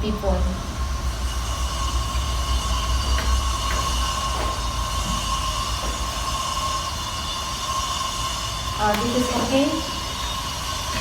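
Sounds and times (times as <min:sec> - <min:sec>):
high-pitched whine: 0:00.0 - 0:11.0
low machinery rumble: 0:00.0 - 0:11.0.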